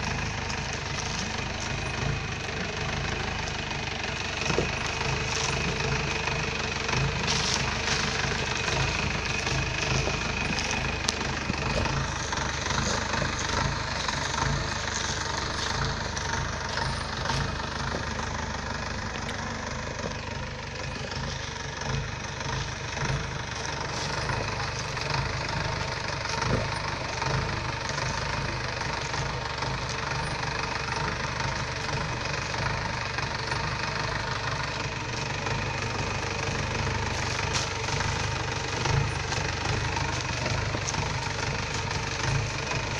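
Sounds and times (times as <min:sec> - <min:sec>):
jeep engine running at low speed: 0:00.0 - 0:42.9.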